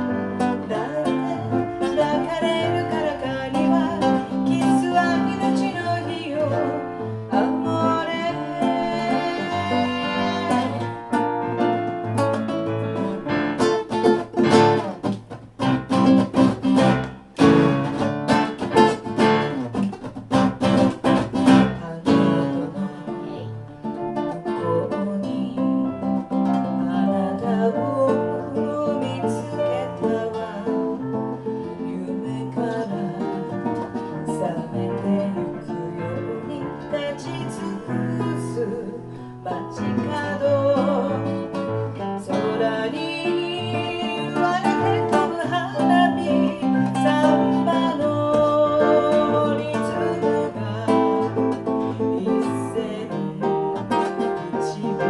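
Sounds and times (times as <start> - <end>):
person singing: 0.0 - 15.2, 16.0 - 55.0
bossa nova on nylon guitar: 0.0 - 55.0.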